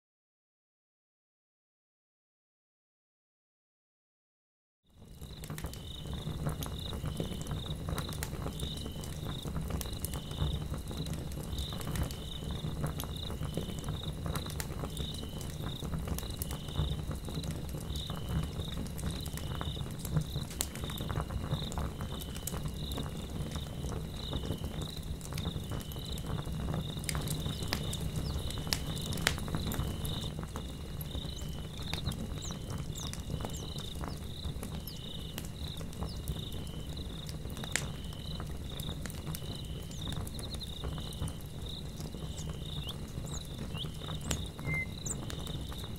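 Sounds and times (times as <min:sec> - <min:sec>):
insects chirping: 0:05.0 - 0:45.9
log fire crackling: 0:05.0 - 0:45.9.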